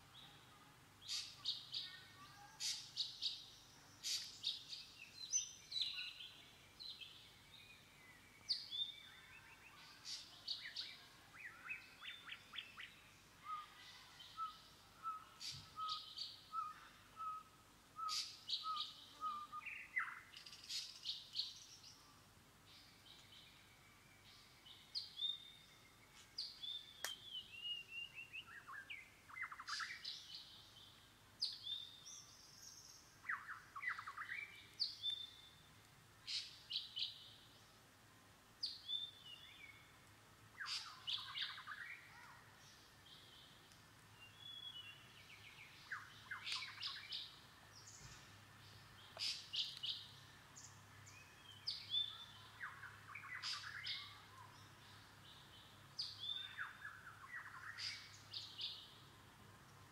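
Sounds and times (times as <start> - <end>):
songbirds chirping and singing: 0.0 - 37.8, 38.6 - 59.9
low evenly spaced bird notes: 0.0 - 59.9.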